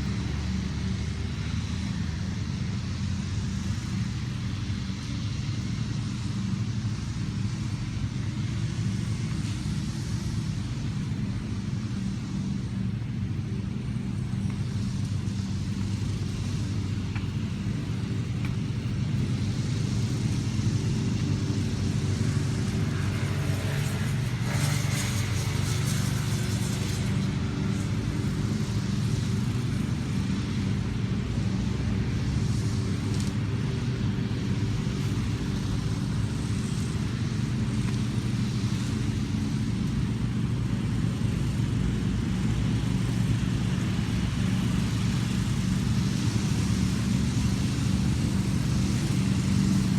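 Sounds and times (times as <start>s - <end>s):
motor vehicle rumble: 0.0s - 49.9s.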